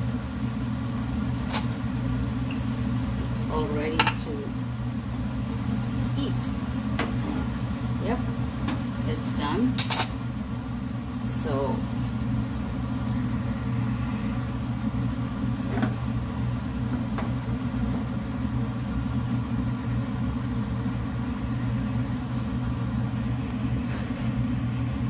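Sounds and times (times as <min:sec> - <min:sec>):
kitchen appliance humming: 0:00.0 - 0:25.0.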